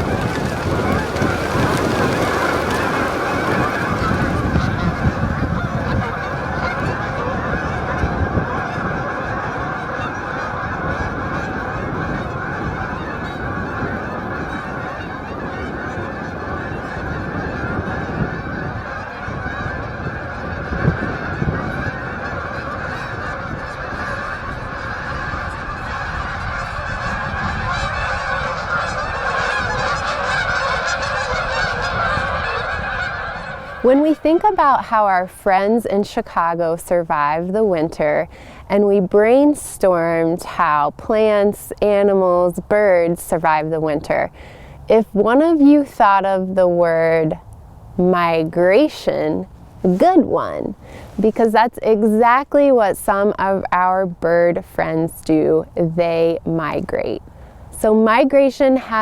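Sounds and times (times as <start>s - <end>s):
geese honking: 0.0s - 47.4s, 48.0s - 59.0s.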